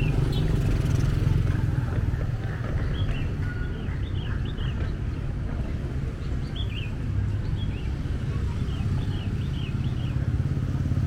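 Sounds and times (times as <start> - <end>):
small birds chirping: 0.0 - 1.5, 2.6 - 10.8
street traffic rumble: 0.0 - 11.0.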